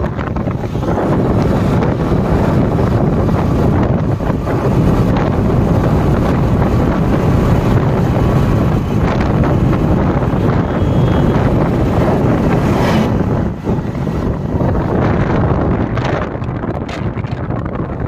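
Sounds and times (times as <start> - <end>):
low road rumble: 0.0 - 18.0
wind rushing over microphone: 0.0 - 18.0.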